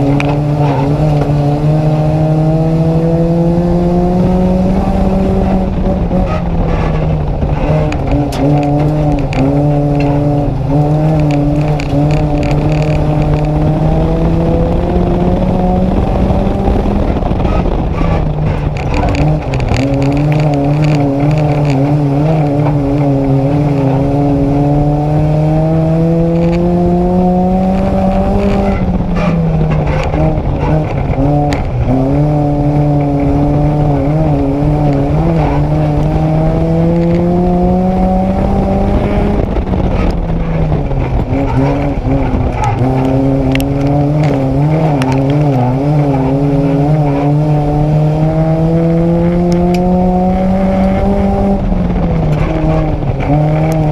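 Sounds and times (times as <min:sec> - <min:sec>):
race car engine from inside: 0:00.0 - 0:53.9.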